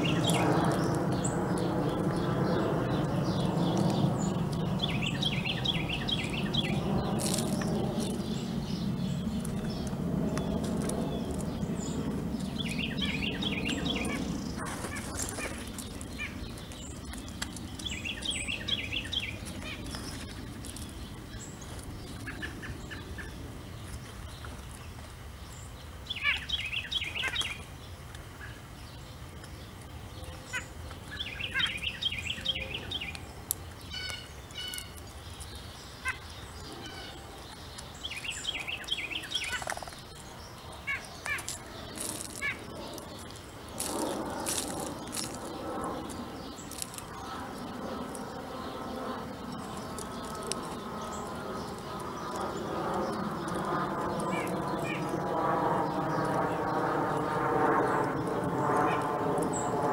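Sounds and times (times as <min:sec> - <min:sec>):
songbird chirping: 0:00.0 - 0:59.8
low background rumble: 0:00.0 - 0:59.9.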